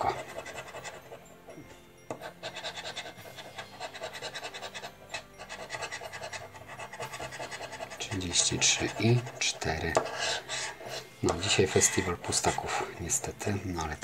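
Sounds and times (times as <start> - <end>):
scratching lottery card: 0.0 - 1.2, 2.1 - 13.3.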